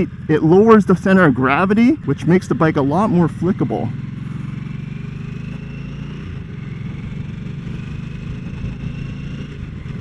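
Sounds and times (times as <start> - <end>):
motorcycle engine running low speed: 0.0 - 10.0.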